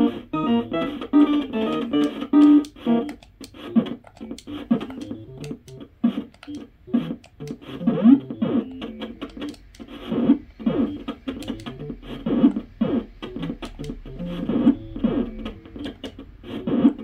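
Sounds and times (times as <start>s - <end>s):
chiptune game music: 0.0s - 5.9s, 6.5s - 16.0s
quick falling blips: 0.4s - 17.0s.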